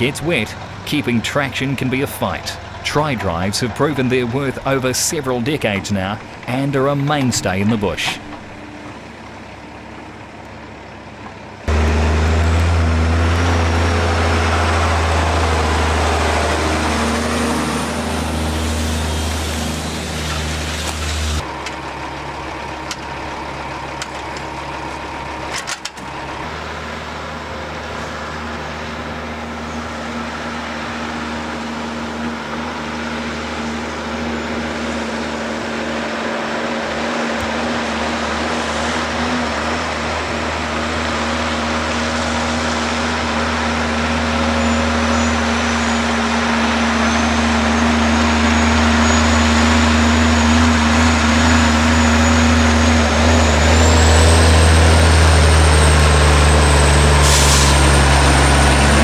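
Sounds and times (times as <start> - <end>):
heavy diesel truck engine drone: 0.0 - 59.0.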